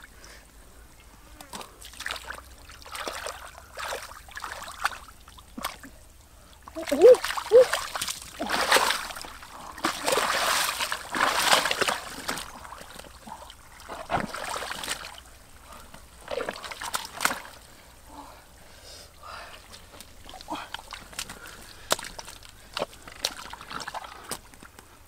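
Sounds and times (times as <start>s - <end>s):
water splashing and sloshing: 1.4s - 18.6s, 19.2s - 25.0s.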